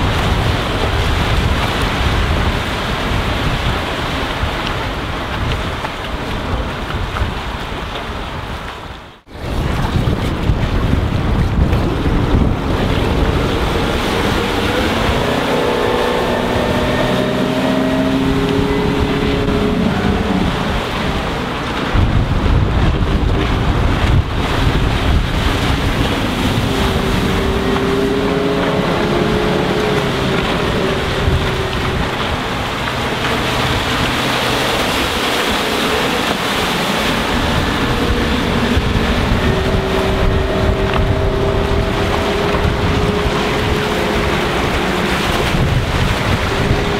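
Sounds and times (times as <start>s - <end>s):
rushing water: 0.0s - 46.9s
wind noise on microphone: 0.0s - 46.9s
outboard motor running: 9.3s - 46.9s.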